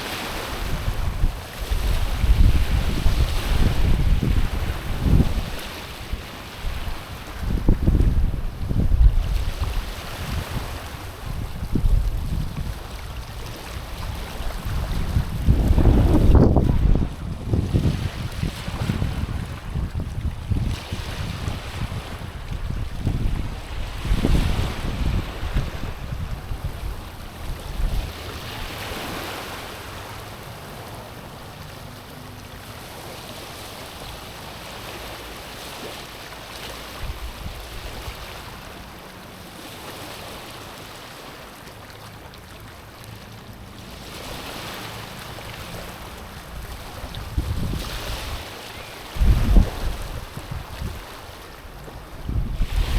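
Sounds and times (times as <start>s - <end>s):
waves lapping on stony shore: 0.0s - 52.9s.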